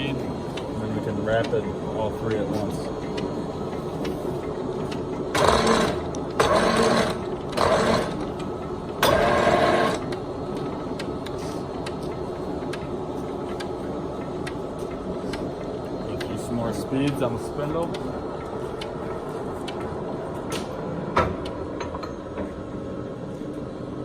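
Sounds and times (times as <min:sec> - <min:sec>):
lathe running: 0:00.0 - 0:21.1
mechanical whine of lathe carriage: 0:00.0 - 0:24.0.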